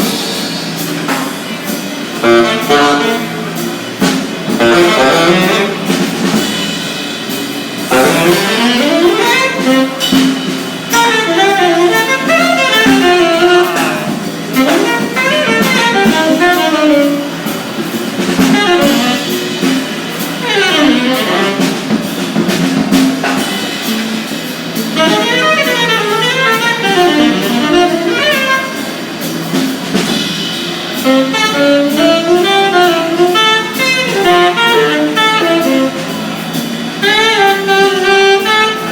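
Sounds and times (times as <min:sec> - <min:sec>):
drums: 0:00.0 - 0:38.9
jazz saxophone melody: 0:00.0 - 0:38.9.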